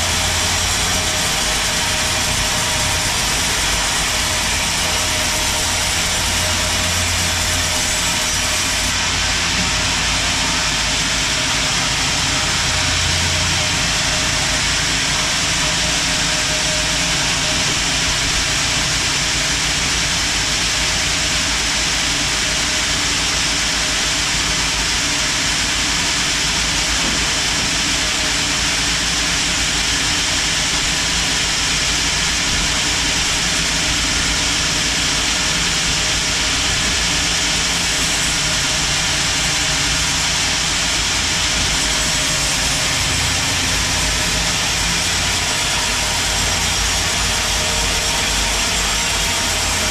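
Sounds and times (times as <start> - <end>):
sawmill machinery running: 0.0 - 49.9.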